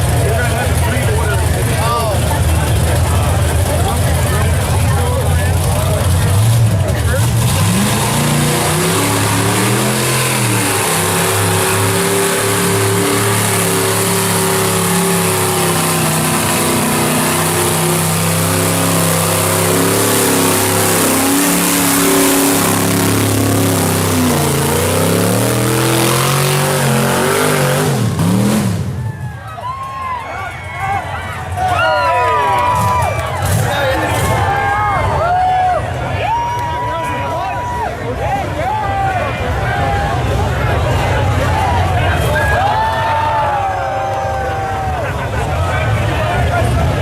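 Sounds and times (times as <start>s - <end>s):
truck engine revving: 0.0s - 29.4s, 32.4s - 34.8s, 38.4s - 42.8s, 43.5s - 47.0s.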